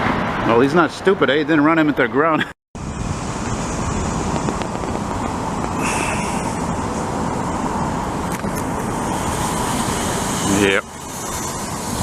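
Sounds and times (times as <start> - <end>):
road traffic roar: 0.0 - 12.0.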